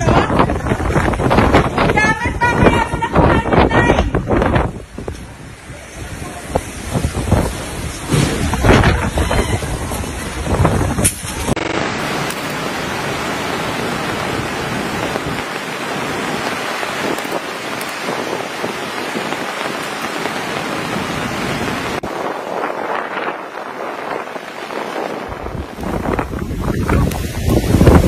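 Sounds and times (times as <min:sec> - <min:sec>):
heavy rain pouring: 0:00.0 - 0:28.0
rumbling gusting noise: 0:00.0 - 0:28.0.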